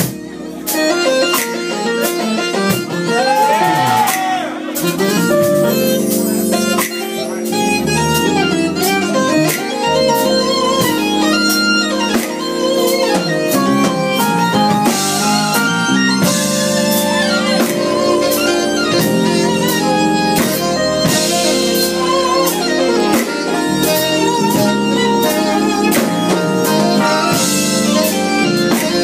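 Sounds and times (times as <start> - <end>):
drum kit beat: 0.0 - 29.0
sustained keyboard chords: 0.0 - 29.0
keytar synth lead melody: 4.6 - 29.0.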